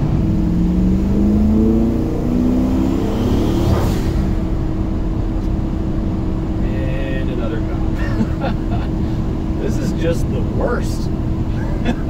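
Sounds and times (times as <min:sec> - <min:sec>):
truck engine accelerating: 0:00.0 - 0:12.0.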